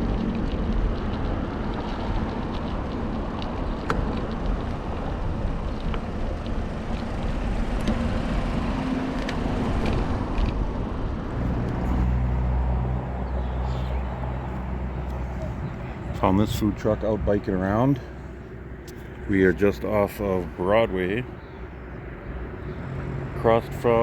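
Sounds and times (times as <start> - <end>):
wind on microphone: 0.0 - 19.3
road noise: 0.0 - 24.0
low motor hum: 0.2 - 23.4.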